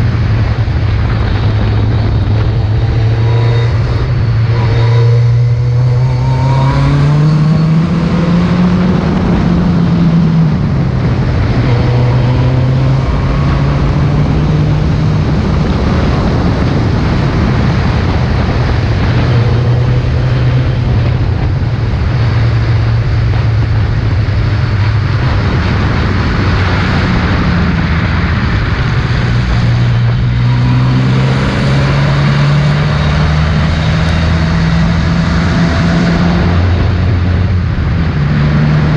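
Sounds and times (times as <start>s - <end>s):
car engine accelerating: 0.0s - 38.9s
steady rush of noise: 0.0s - 38.9s.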